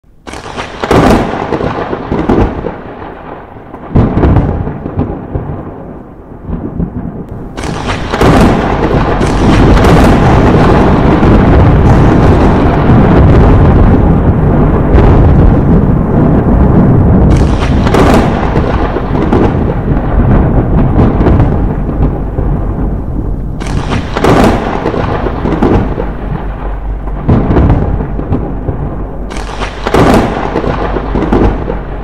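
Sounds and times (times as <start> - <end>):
rolling thunder: 0.2 - 32.0
thunder cracks: 0.2 - 32.0.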